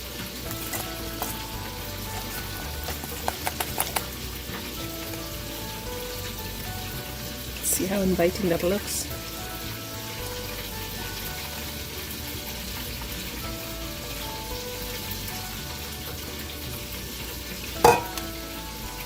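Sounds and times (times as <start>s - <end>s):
faint background music: 0.0s - 19.0s
hot oil sizzling: 0.0s - 19.0s.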